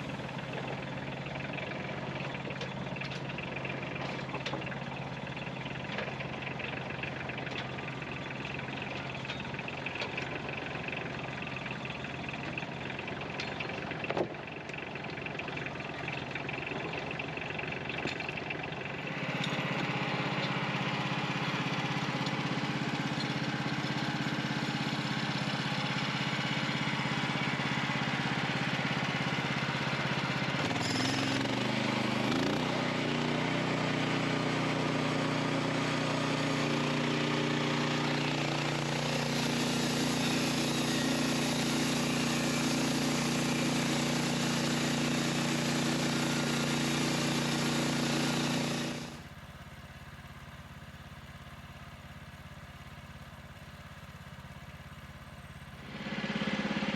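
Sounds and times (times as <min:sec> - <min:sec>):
sawmill engine running: 0:00.0 - 0:56.9.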